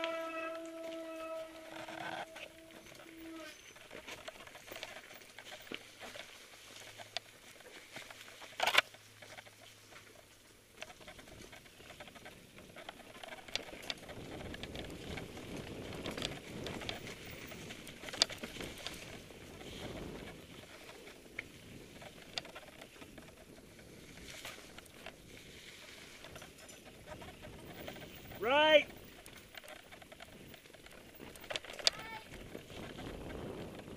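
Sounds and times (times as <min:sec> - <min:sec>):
bike tyres crackling through leaves: 0:00.0 - 0:33.9.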